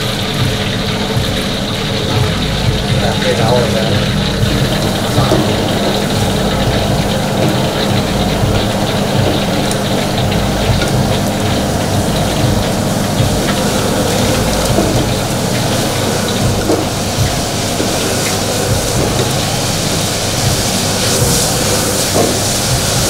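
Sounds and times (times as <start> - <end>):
food sizzling in a pan: 0.0 - 23.0
kitchen equipment hum: 0.0 - 23.0.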